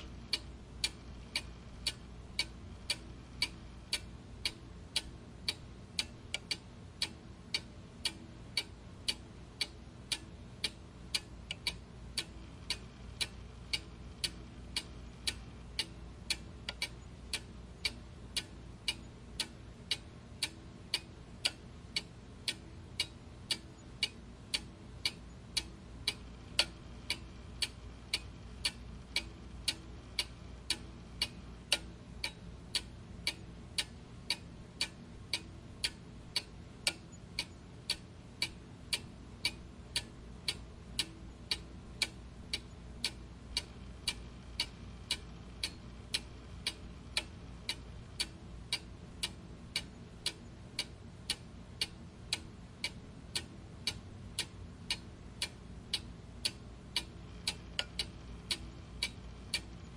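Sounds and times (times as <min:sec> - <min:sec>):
clock ticking: 0:00.0 - 0:59.9
faint low hum: 0:00.0 - 0:59.9.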